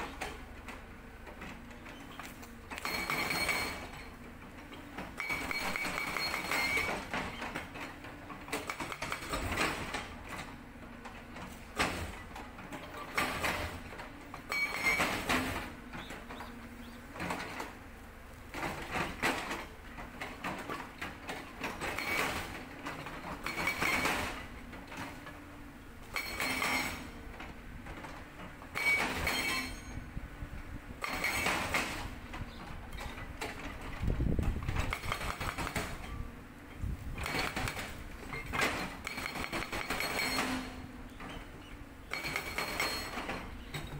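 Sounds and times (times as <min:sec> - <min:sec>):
excavator engine running: 0:00.0 - 0:43.9
hydraulic breaker hammering rock: 0:01.4 - 0:10.5, 0:11.2 - 0:17.7, 0:18.5 - 0:25.4, 0:26.0 - 0:27.2, 0:28.0 - 0:30.1, 0:31.0 - 0:36.3, 0:37.1 - 0:43.9.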